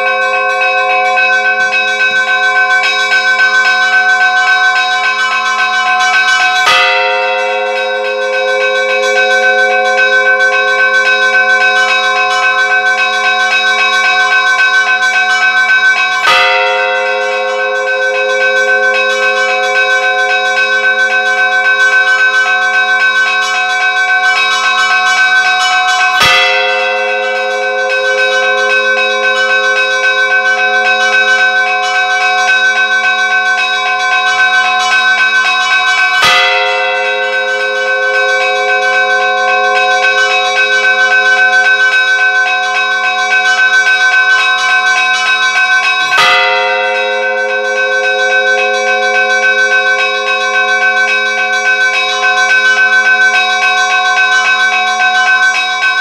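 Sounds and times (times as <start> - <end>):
large bell striking heavily: 0.0 - 55.9
small church bells chiming: 0.0 - 56.0.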